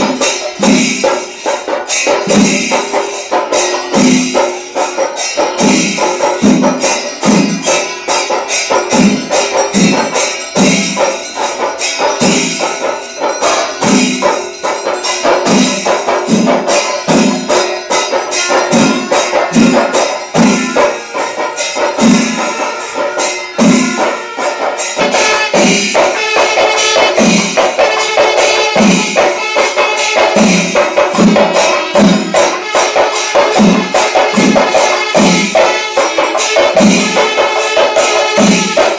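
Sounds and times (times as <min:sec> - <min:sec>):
jingling cymbals: 0:00.0 - 0:38.9.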